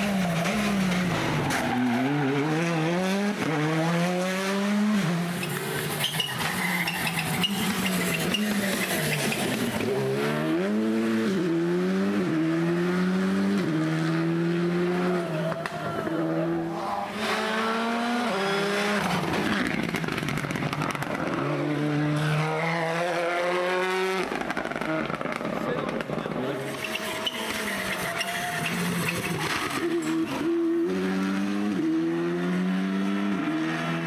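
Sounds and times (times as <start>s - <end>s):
rally car engine accelerating: 0.0s - 34.0s.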